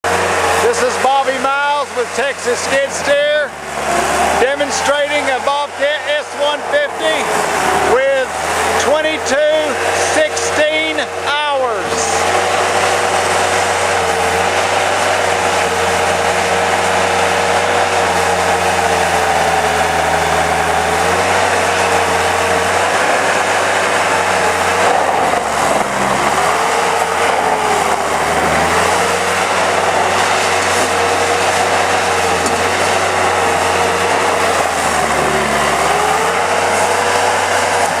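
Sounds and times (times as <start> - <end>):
diesel engine running: 0.0 - 38.0
hydraulic whine: 0.0 - 38.0.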